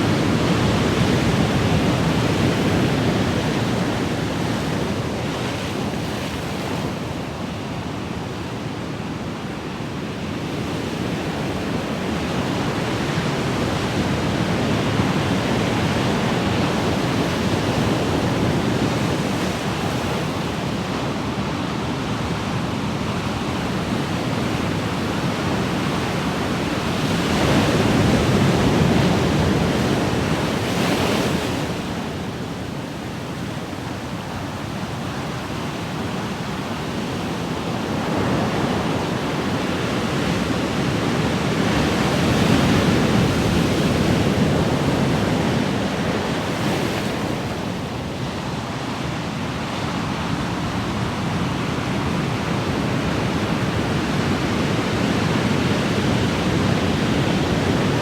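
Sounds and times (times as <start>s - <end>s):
ocean waves surf: 9.5s - 58.0s.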